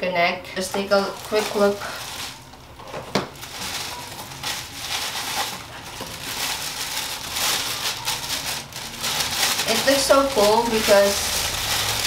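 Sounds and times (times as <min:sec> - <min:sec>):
plastic wrap crinkling: 0:00.6 - 0:12.0.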